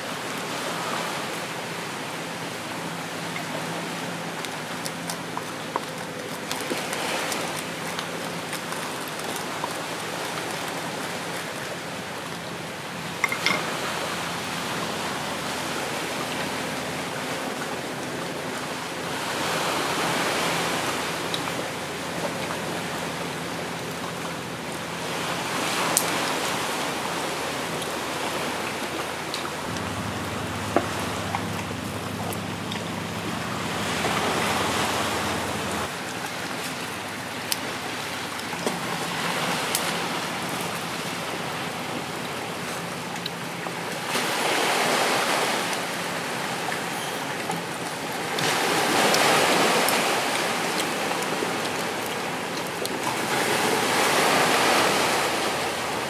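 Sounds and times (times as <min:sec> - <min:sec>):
waves washing onto rocky shore: 0:00.0 - 0:56.0.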